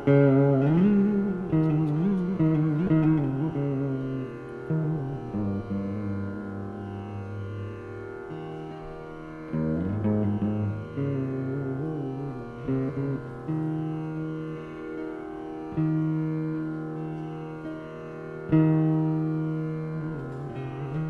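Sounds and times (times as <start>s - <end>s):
veena plucked notes: 0.0s - 21.0s.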